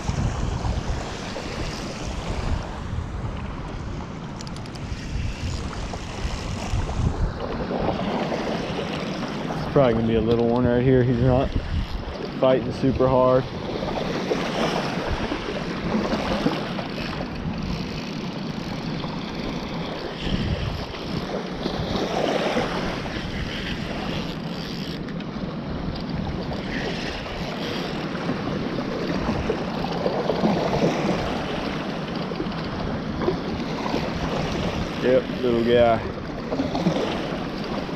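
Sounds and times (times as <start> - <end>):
wind buffeting microphone: 0.0 - 25.0, 25.7 - 37.9
waves washing at shore: 0.0 - 37.9.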